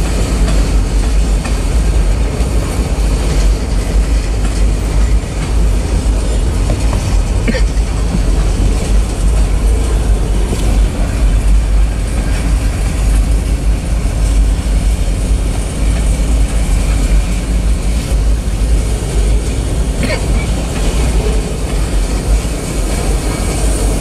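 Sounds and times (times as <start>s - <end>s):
freight train wheels rumbling on rail: 0.0s - 24.0s.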